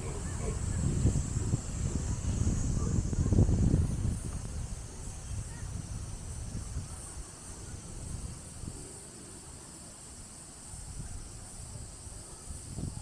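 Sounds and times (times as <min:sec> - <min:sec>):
low wind rumble on microphone: 0:00.0 - 0:09.5, 0:10.6 - 0:13.0
insect chorus drone: 0:00.0 - 0:13.0.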